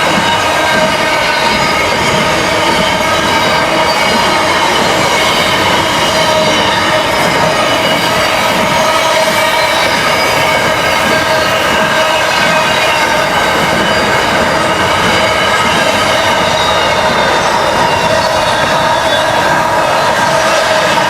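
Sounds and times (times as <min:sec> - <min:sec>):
high-pitched wheel squeal: 0:00.0 - 0:21.0
wheels rumbling on rails: 0:00.0 - 0:21.0.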